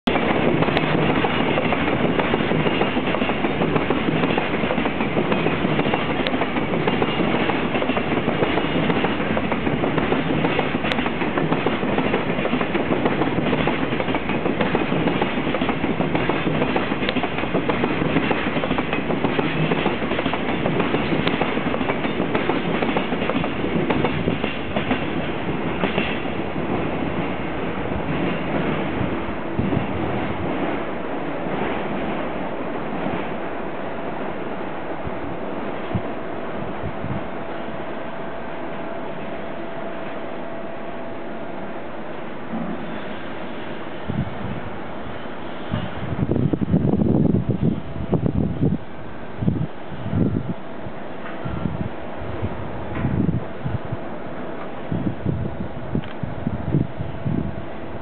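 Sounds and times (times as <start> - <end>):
freight train rolling past: 0.1 - 58.0.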